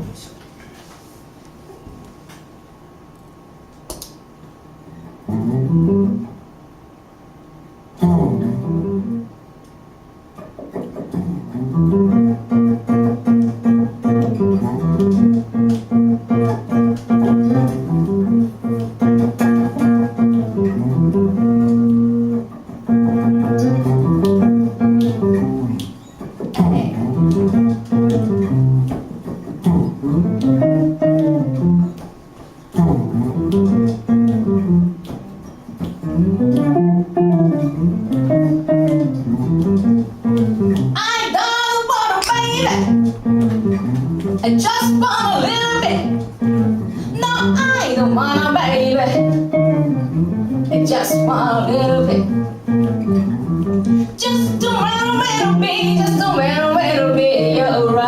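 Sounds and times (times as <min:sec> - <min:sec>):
rhythm and blues guitar riff: 0:04.6 - 0:06.6, 0:07.9 - 0:58.0.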